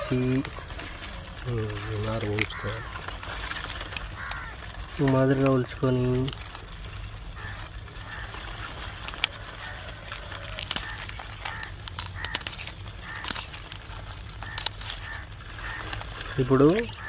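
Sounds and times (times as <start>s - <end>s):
crab shells cracking: 0.0s - 17.0s
crows cawing: 0.0s - 17.0s.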